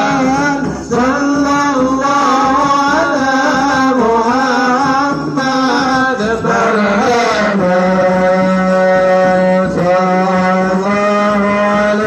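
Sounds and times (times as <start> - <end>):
men singing devotional chant: 0.0 - 12.0.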